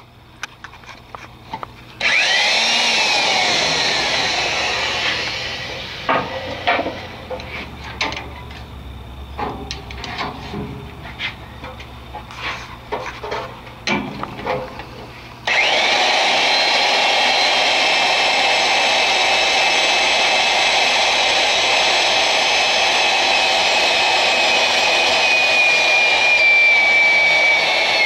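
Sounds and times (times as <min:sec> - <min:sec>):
tube expander high whine: 0:01.9 - 0:12.8, 0:14.7 - 0:28.0.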